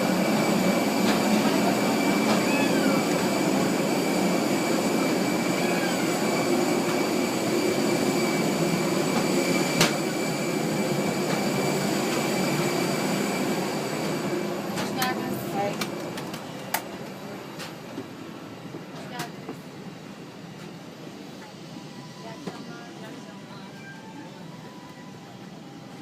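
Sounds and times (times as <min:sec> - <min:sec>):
airliner hum with high whine: 0:00.0 - 0:26.0.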